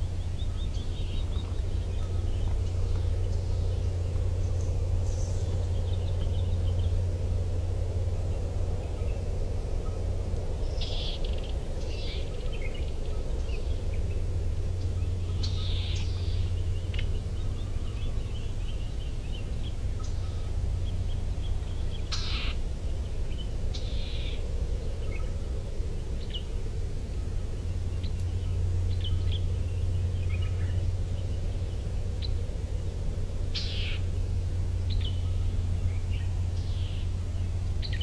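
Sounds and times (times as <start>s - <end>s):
birds chirping: 0.0s - 38.0s
steady low rumble: 0.0s - 38.0s.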